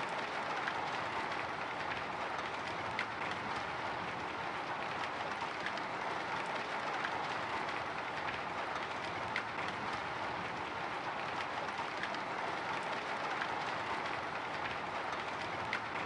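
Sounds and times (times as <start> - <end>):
drizzle pattering on window: 0.0 - 16.0.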